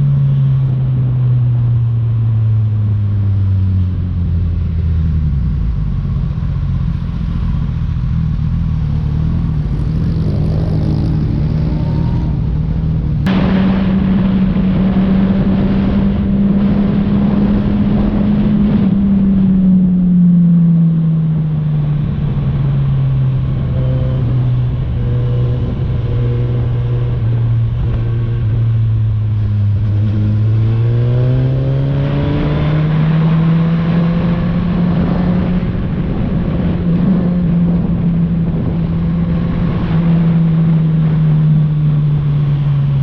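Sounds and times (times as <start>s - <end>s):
motorcycle engine while riding: 0.0s - 43.0s.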